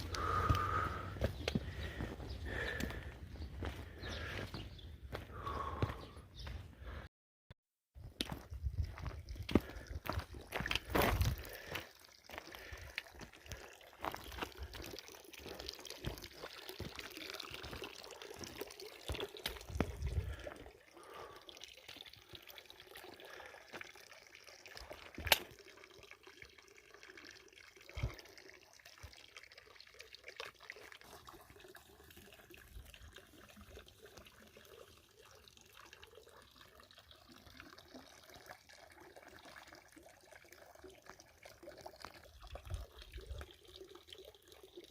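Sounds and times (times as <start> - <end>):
water trickling and splashing: 0.0 - 7.0, 8.0 - 44.9.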